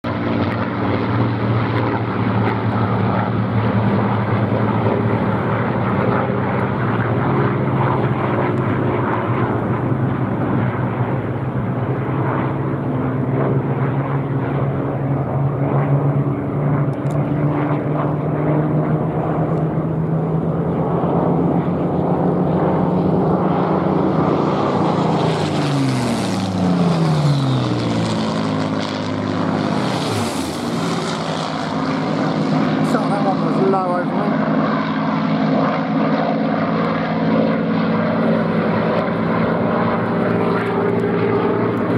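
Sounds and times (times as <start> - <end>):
plane passing by: 0.0 - 41.9
propeller plane engines droning: 0.0 - 41.9.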